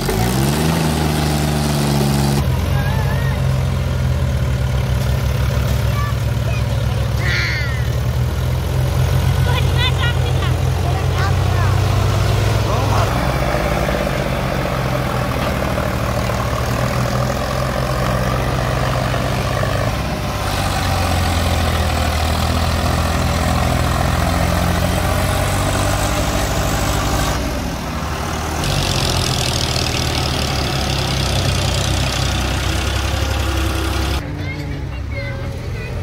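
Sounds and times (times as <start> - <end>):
backhoe working: 0.0 - 36.0
diesel tractor engines running: 0.0 - 36.0.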